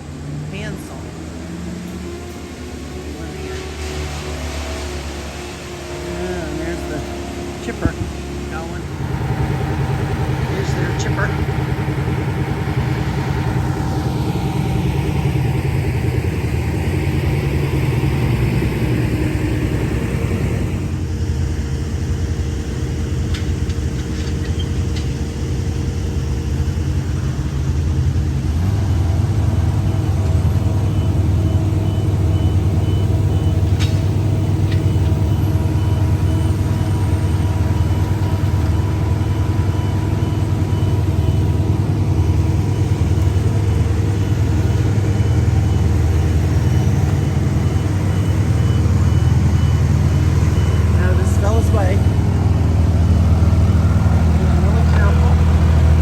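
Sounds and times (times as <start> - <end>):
wood chipper engine running: 0.0 - 56.0.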